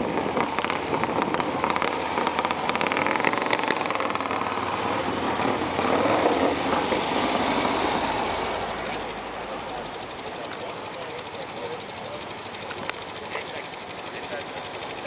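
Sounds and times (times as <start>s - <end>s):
motorcycle engine with open exhaust: 0.0s - 15.0s.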